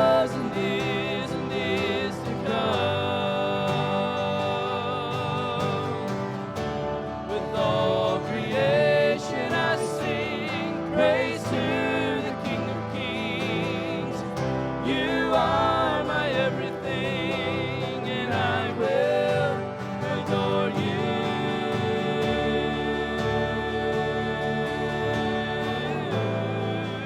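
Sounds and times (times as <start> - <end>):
sustained band chords: 0.0 - 27.0.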